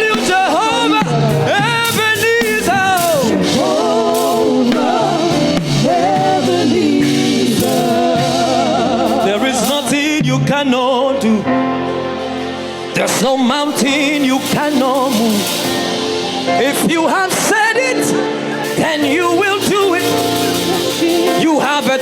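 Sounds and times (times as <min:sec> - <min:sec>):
gospel backing band: 0:00.0 - 0:22.0
person singing with vibrato: 0:00.0 - 0:22.0.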